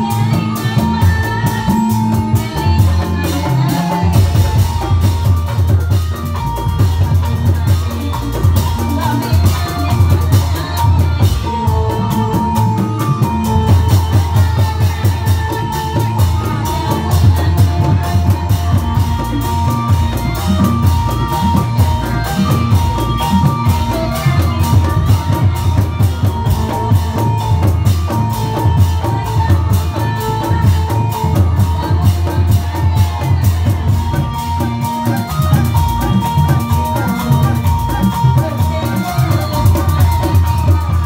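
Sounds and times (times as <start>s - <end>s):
electronic keyboard melody: 0.0s - 41.0s
fast continuous drumming: 0.0s - 41.0s.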